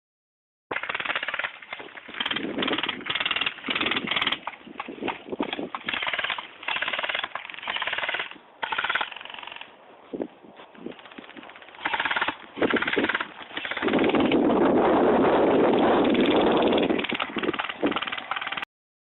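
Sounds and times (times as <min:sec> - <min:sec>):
airsoft guns firing bursts: 0:00.7 - 0:09.7, 0:10.9 - 0:14.5, 0:15.6 - 0:18.7.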